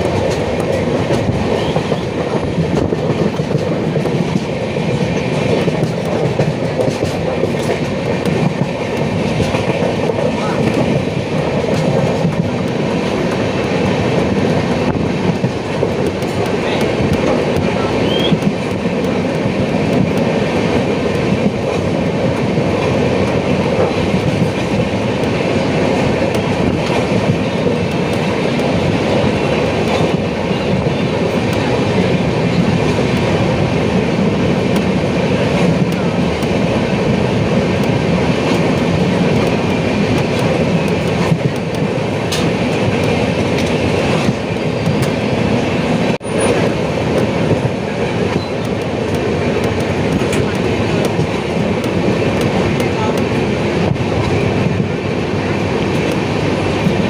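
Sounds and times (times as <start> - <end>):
train wheels on rails from inside: 0.0 - 57.0.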